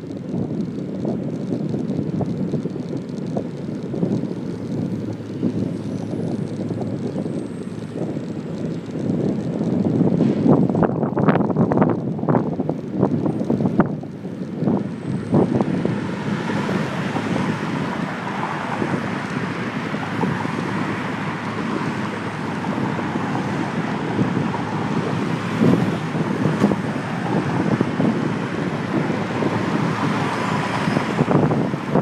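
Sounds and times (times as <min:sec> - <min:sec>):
city traffic: 0:00.0 - 0:32.0
wind and road noise: 0:00.0 - 0:32.0.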